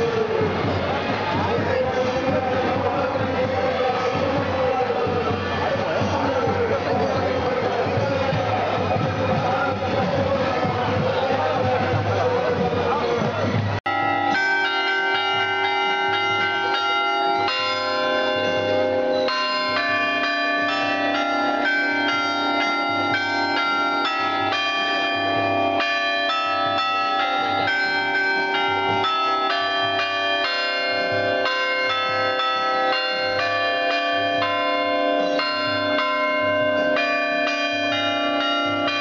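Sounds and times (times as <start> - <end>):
bells chiming: 0.0 - 39.0.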